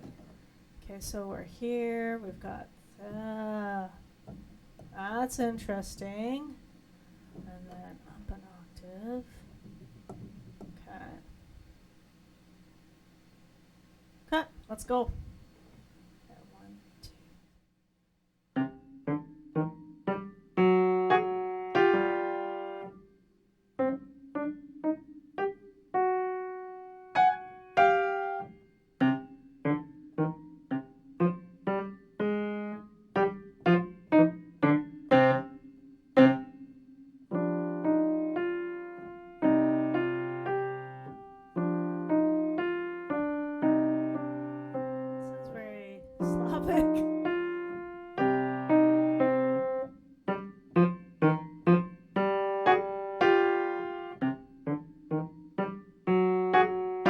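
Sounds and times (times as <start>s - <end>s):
solo piano: 0.0s - 8.6s, 18.6s - 23.0s, 23.8s - 36.6s, 37.3s - 57.0s.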